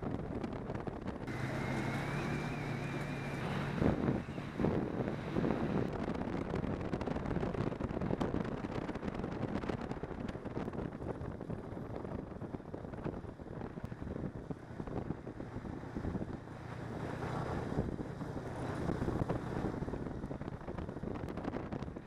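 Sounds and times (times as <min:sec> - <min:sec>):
wind noise on microphone: 0:00.0 - 0:22.0
snowmobile engine running: 0:01.2 - 0:22.0.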